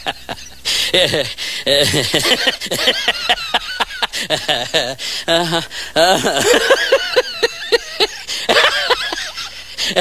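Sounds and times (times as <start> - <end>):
high-pitched human laughter: 0.0 - 10.0.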